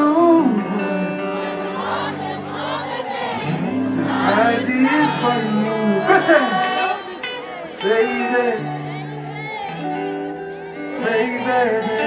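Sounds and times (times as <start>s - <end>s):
crowd voices: 0.0s - 12.0s
live concert singing: 0.0s - 12.0s.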